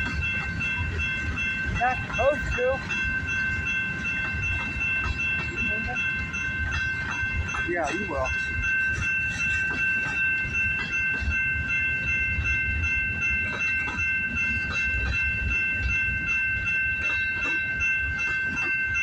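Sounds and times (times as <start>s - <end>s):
train wheels rumbling over rails: 0.0s - 19.0s.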